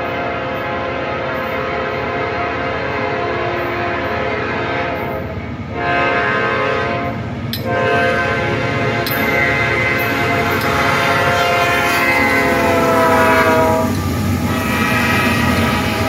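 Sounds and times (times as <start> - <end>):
locomotive air horn: 0.0 - 16.0.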